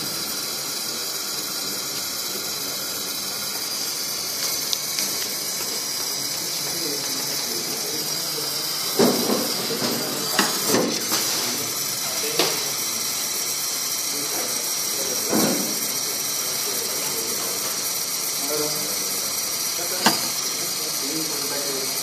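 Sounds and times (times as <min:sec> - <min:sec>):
torch flame hissing: 0:00.0 - 0:22.0.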